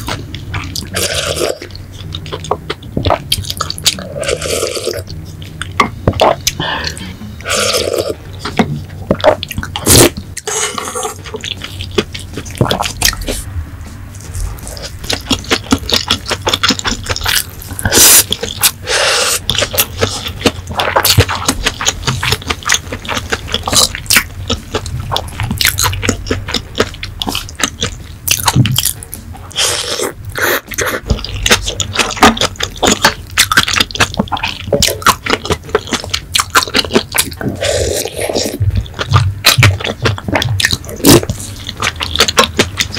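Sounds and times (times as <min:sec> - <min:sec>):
person chewing with wet mouth sounds: 0:00.0 - 0:42.9.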